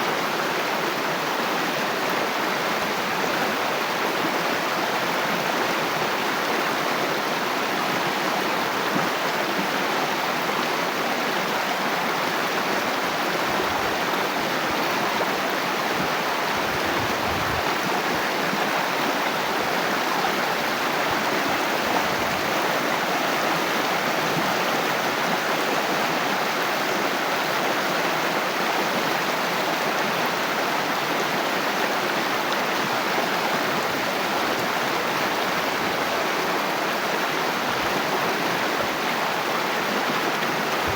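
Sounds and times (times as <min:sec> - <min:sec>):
water flowing steadily: 0:00.0 - 0:40.9.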